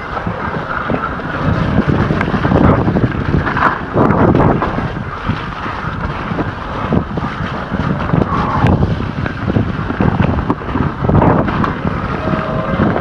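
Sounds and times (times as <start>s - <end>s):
bike knocks and rattles: 0.0s - 12.2s
wind buffeting microphone: 0.0s - 13.0s.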